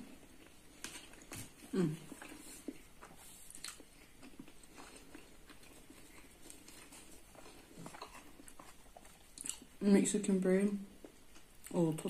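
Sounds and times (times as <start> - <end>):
chewing: 0.0 - 9.8, 10.7 - 12.0.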